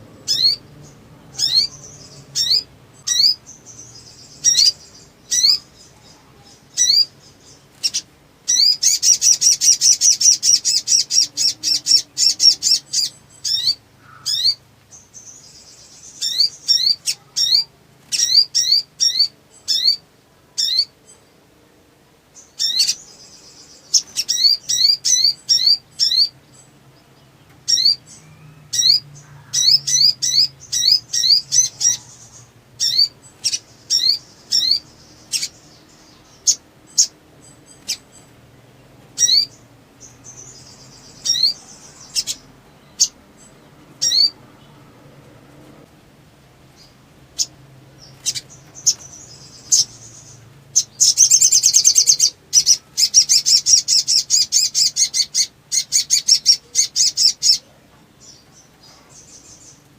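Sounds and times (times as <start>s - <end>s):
sunbird chirping and trilling: 0.0s - 45.5s, 46.6s - 59.9s.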